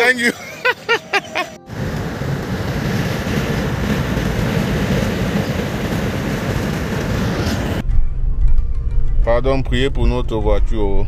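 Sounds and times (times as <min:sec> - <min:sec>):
car road and wind noise: 0:01.6 - 0:11.0.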